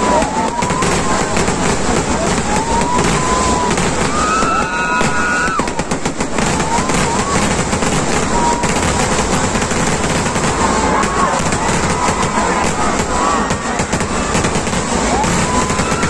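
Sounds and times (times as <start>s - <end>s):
firecracker bangs and crackles: 0.0s - 16.0s
high whistling fireworks: 0.0s - 16.0s.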